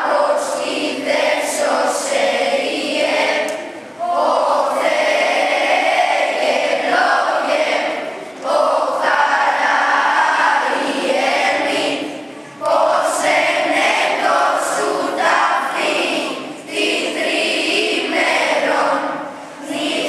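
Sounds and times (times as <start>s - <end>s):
children's choir singing a hymn: 0.0s - 20.0s.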